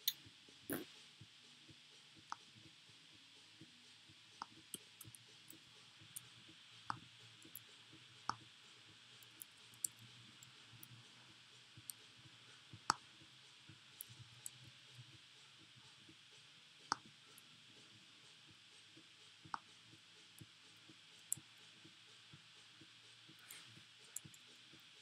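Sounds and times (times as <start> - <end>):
low steady hiss: 0.0 - 25.0.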